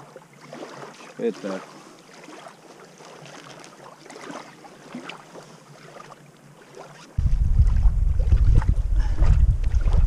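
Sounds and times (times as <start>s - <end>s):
light wind: 0.0s - 10.0s
water lapping and splashing: 0.0s - 10.0s.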